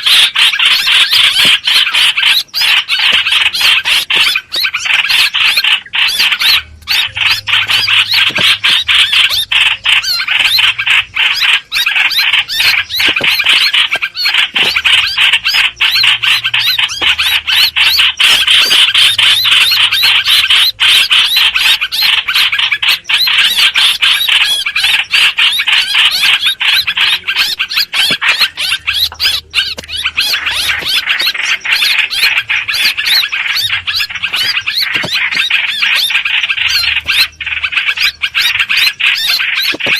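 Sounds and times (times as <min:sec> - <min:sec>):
bird squealing chatter: 0:00.0 - 0:39.9.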